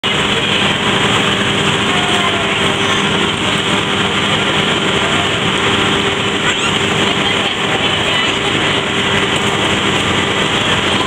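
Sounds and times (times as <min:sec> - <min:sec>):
constant low hum: 0:00.0 - 0:11.0
kiddie ride mechanical din: 0:00.0 - 0:11.0.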